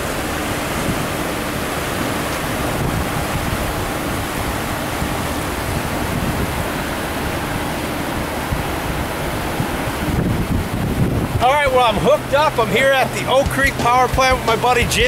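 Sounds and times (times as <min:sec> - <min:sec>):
turbulent water rushing: 0:00.0 - 0:15.0.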